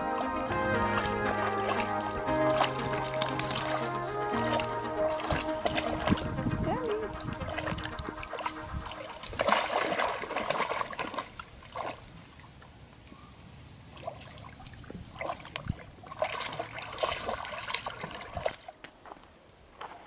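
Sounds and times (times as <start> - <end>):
dog splashing in water: 0.5 - 12.1, 13.9 - 18.8.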